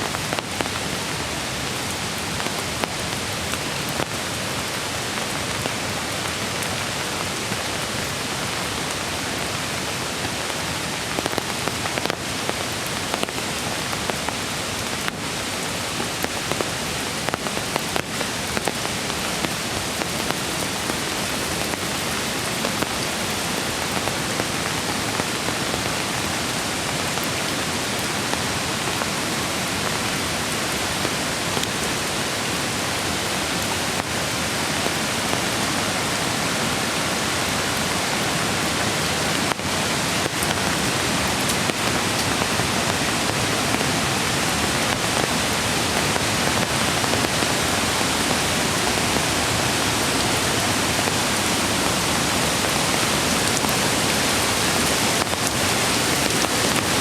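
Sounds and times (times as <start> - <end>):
rain hiss: 0.0 - 57.0
rushing creek water: 0.0 - 57.0.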